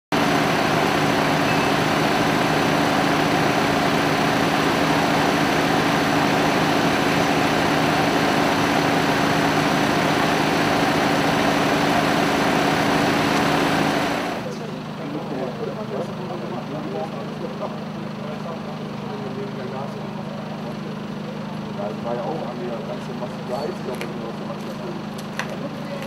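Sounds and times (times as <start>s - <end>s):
diesel engine running: 0.1s - 26.0s.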